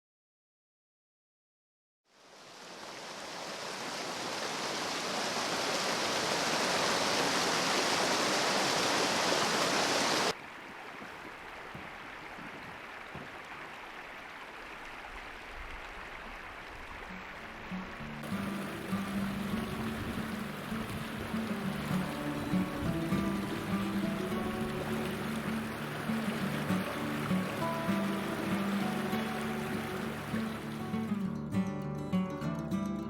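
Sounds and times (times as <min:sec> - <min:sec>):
river water rushing: 0:02.2 - 0:31.3.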